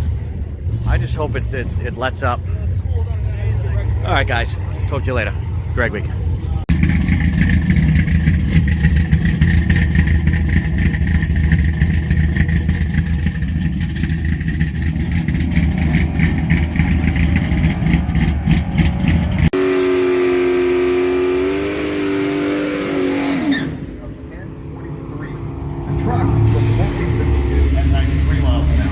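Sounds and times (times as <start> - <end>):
car engine idling: 0.0 - 28.9
engine held at higher note: 0.8 - 28.9.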